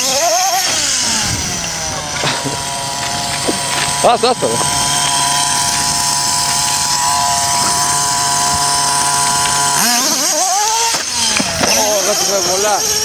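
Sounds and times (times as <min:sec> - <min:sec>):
toy truck engine revving: 0:00.0 - 0:13.0.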